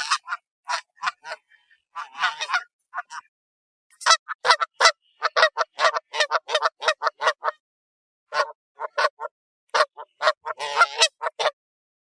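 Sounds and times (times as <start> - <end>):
geese honking: 0.0 - 3.3, 4.0 - 7.6, 8.3 - 11.6.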